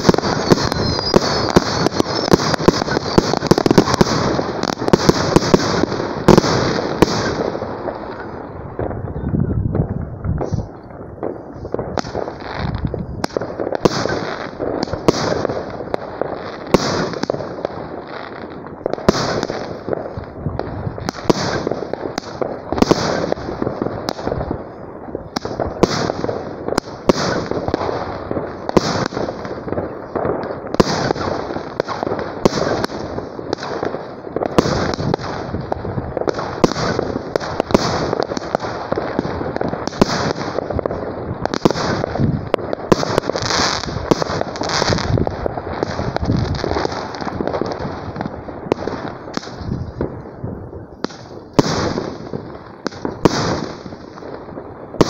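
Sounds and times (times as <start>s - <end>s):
firework shots with hiss: 0.0s - 9.0s, 9.7s - 55.0s.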